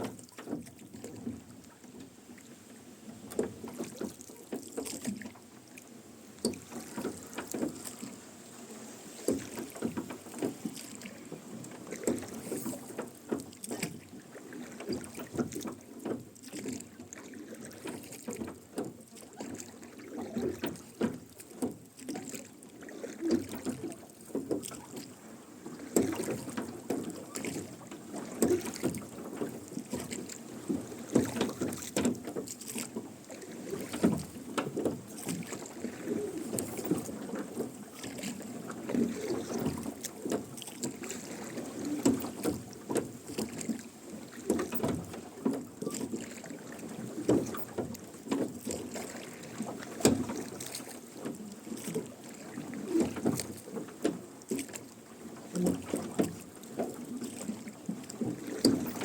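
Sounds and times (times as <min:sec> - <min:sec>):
oars splashing in water: 0:00.0 - 0:59.0.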